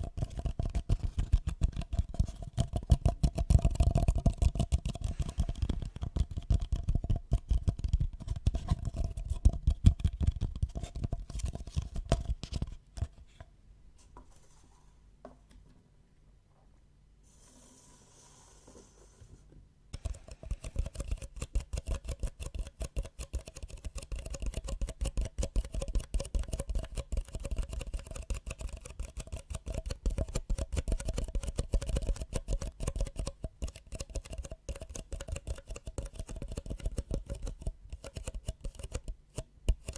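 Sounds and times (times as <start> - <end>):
close tapping and scratching: 0.0 - 13.5, 20.0 - 39.9.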